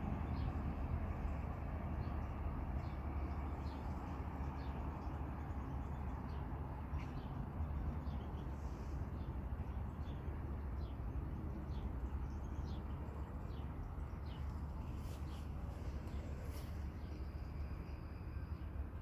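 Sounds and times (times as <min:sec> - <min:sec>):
small birds chirping: 0:00.2 - 0:18.7.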